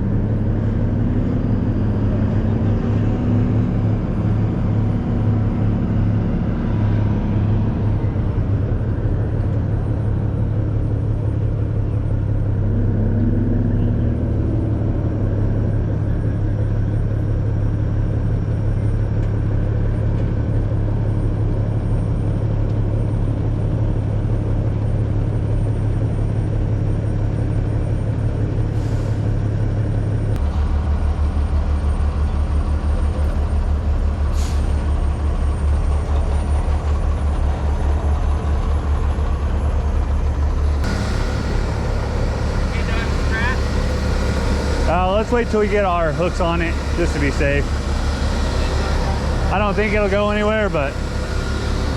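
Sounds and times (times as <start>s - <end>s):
truck engine droning: 0.0s - 51.9s.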